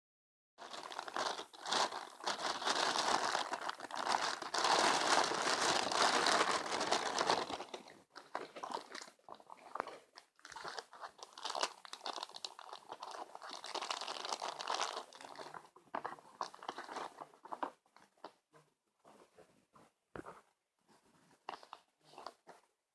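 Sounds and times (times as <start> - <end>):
rustling and crinkling: 0.6 - 22.7.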